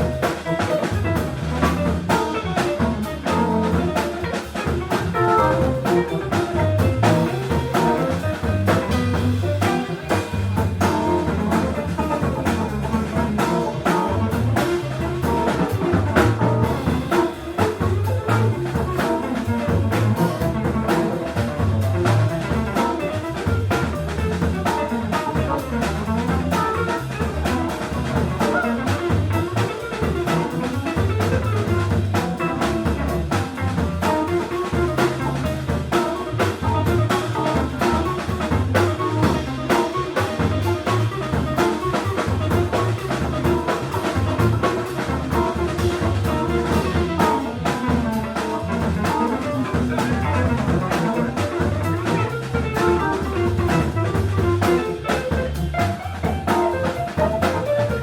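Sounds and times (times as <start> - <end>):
bass line: 0.0 - 58.0
brass: 0.0 - 58.0
jazz-funk music: 0.0 - 58.0
steady drum beat: 0.0 - 58.0.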